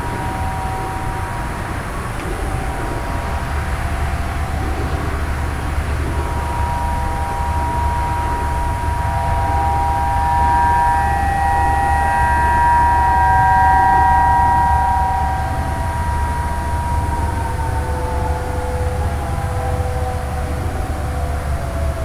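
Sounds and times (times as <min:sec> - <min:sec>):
steady low rumble: 0:00.0 - 0:22.0
tornado warning sirens: 0:00.0 - 0:22.0.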